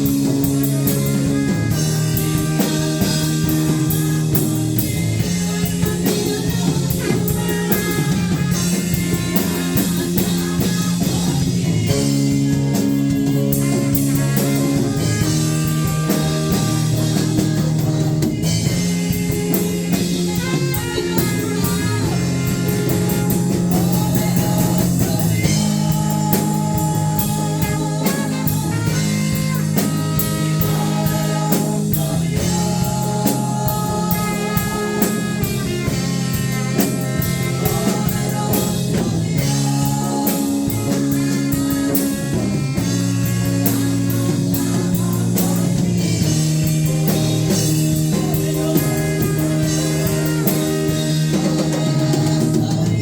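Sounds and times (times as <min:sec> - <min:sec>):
live band playing: 0:00.0 - 0:53.0.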